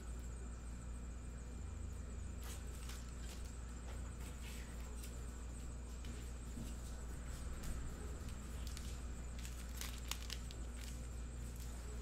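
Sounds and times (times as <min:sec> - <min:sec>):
low hum with faint hiss: 0:00.0 - 0:12.0.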